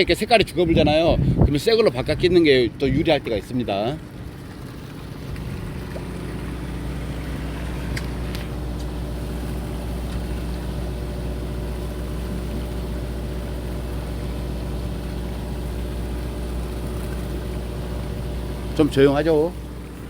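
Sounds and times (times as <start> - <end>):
boat engine idling: 0.0 - 20.0.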